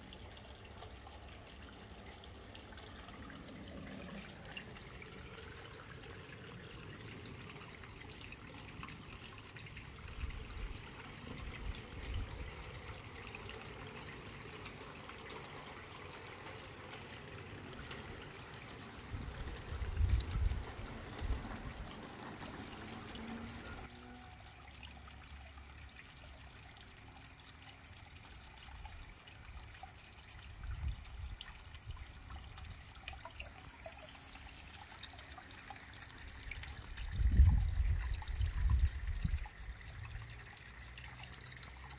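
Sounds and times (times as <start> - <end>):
water trickling: 0.0 - 41.9.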